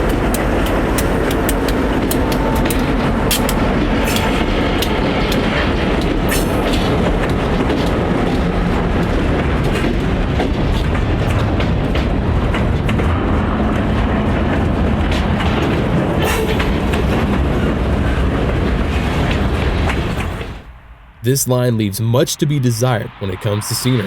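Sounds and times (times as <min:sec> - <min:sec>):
wheels clicking over rail joints: 0:00.0 - 0:20.6
freight train rumbling: 0:00.0 - 0:24.0.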